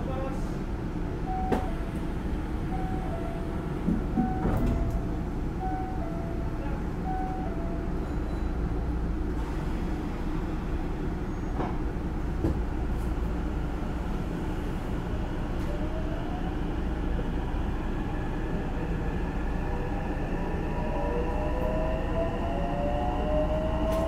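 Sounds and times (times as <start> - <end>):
train wheels rumbling on rails: 0.1 - 24.0.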